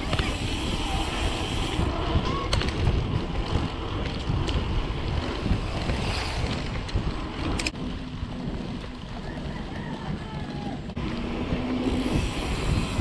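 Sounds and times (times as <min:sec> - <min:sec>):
bike clicks: 0:00.0 - 0:13.0
wind buffeting microphone: 0:00.0 - 0:13.0.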